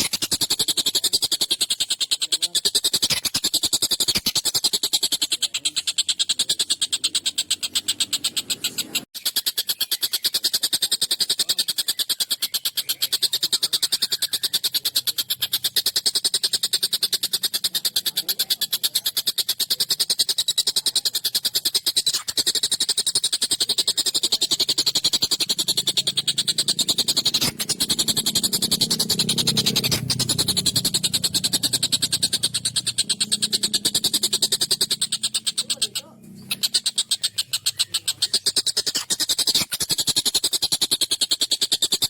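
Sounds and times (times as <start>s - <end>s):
kingfisher chattering call: 0.0s - 42.0s.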